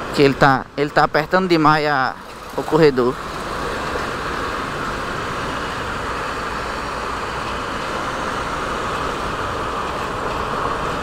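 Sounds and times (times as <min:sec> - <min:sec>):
hum of surrounding cars: 0:00.0 - 0:11.0
motorcycle riding: 0:01.7 - 0:11.0.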